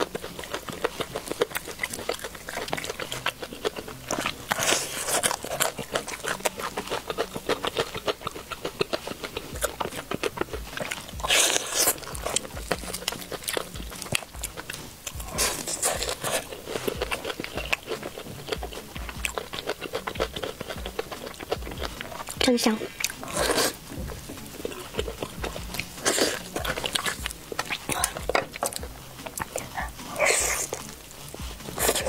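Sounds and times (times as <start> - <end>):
crunching and chewing fried chicken: 0.0 - 32.0.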